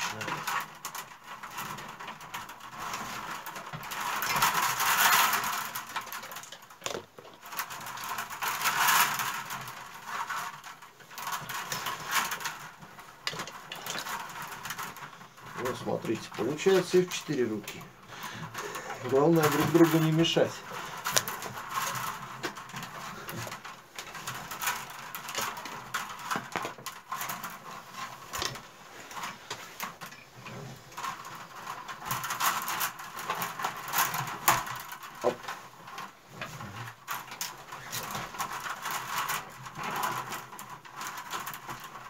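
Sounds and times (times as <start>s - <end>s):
willow rods rustling and creaking: 0.0s - 42.0s.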